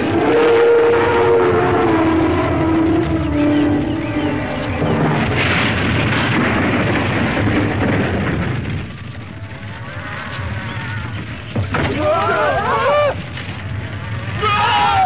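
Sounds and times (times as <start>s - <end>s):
animal herd stampeding: 0.0s - 15.0s.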